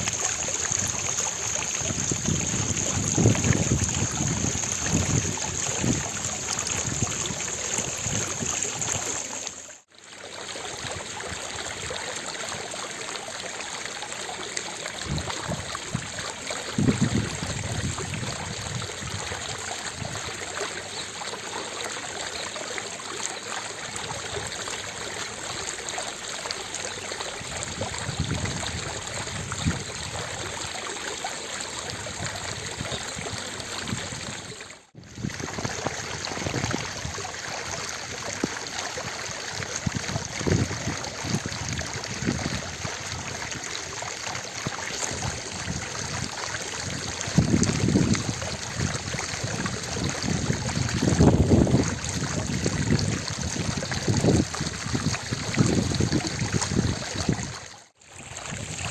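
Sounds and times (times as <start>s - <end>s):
fountain jets splashing: 0.0s - 58.9s.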